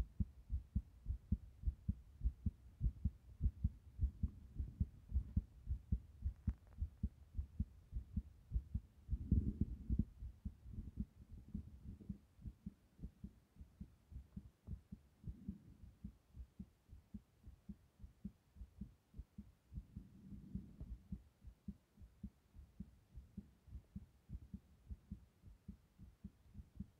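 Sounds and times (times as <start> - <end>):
muffled heartbeat thumps: 0.0 - 26.9.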